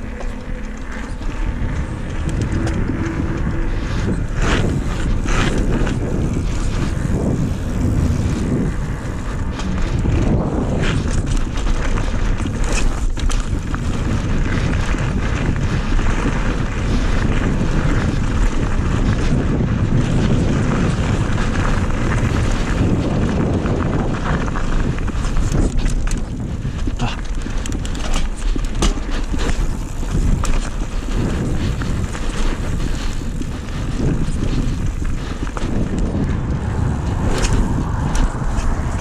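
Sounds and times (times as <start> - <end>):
sharp crackles: 0.0 - 39.0
wind buffeting microphone: 0.0 - 39.0.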